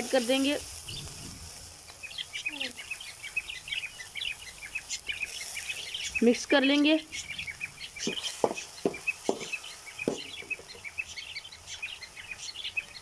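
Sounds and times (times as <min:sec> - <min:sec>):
small birds chirping: 0:00.0 - 0:13.0
hen clucking: 0:02.0 - 0:12.9.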